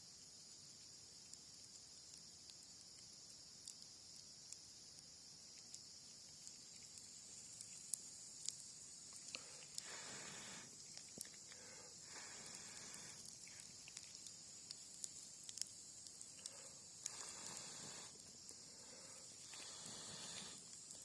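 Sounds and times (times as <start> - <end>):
insects chirring: 0.0 - 21.0
campfire crackling and popping: 0.1 - 21.0.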